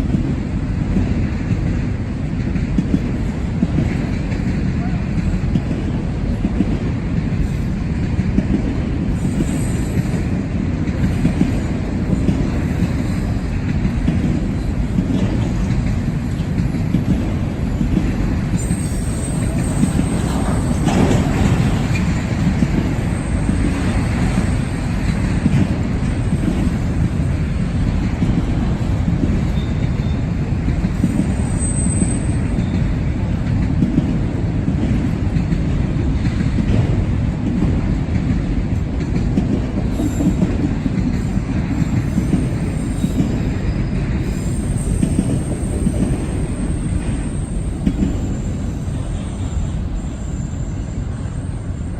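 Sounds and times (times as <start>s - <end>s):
freight train rumbling past: 0.0s - 51.9s.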